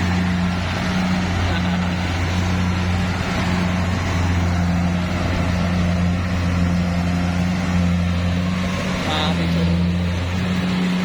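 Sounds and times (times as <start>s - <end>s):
machine engine humming: 0.0s - 11.0s.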